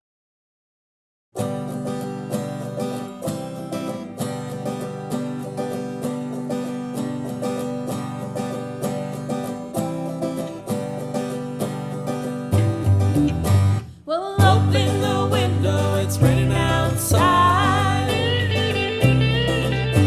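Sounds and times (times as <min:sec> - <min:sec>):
plucked string instruments: 0:01.4 - 0:20.0.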